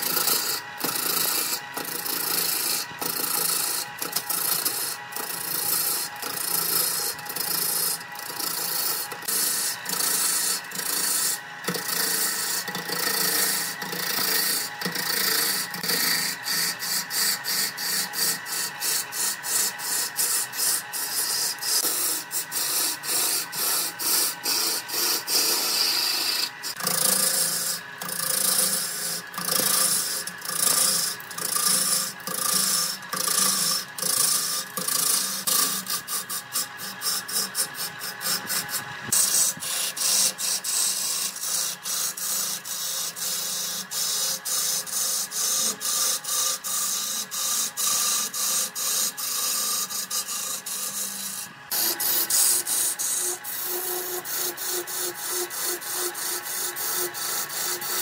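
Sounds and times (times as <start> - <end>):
lathe tool scraping wood: 0.0 - 58.0.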